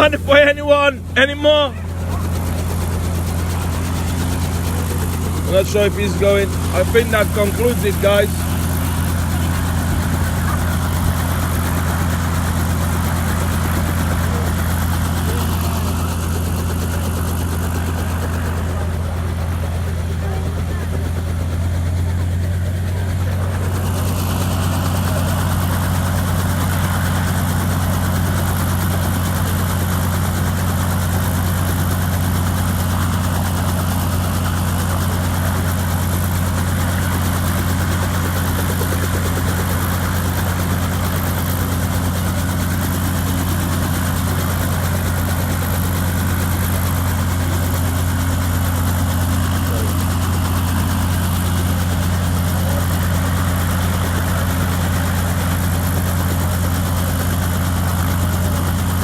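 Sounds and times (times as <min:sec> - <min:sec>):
helicopter droning: 0:00.0 - 0:59.0.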